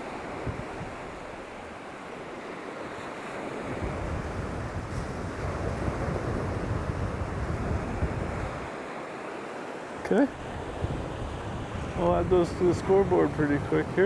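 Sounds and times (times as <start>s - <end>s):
wind buffeting microphone: 0.0s - 1.8s, 3.2s - 8.7s, 10.0s - 14.0s
waves washing on shore: 0.0s - 14.0s.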